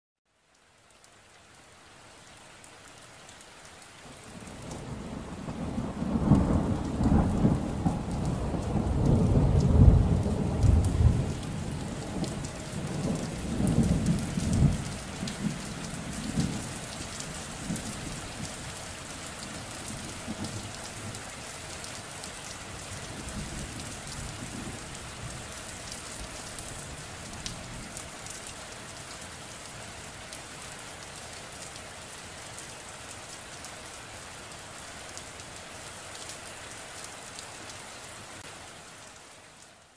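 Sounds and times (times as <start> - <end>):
rain: 0.3 - 39.9.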